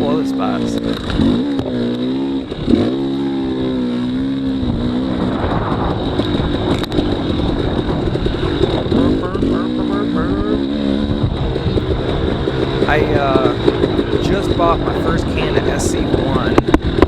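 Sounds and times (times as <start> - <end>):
dirt bike engine: 0.0 - 17.0.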